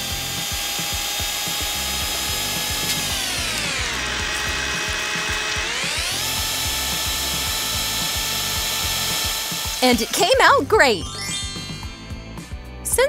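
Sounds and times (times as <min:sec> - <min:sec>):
electric hand mixer whirring: 0:00.0 - 0:12.3.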